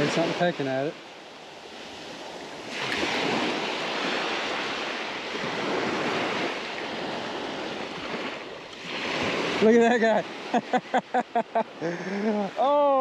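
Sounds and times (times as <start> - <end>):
surf waves washing onto sand: 0.0 - 13.0.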